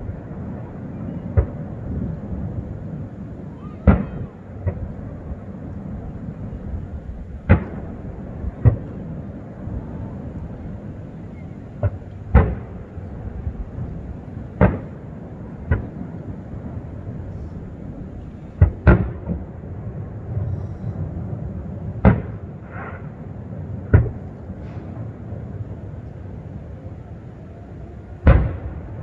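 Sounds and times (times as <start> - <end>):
fireworks bangs: 0.0 - 26.7, 28.1 - 29.0
low rumble: 0.0 - 29.0.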